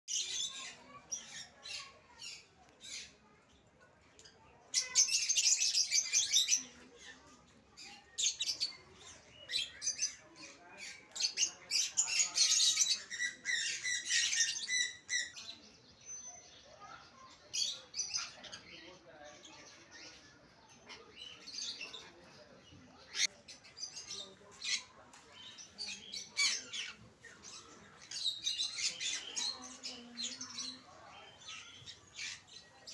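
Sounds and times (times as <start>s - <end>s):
lovebirds chirping and squawking: 0.1s - 32.9s.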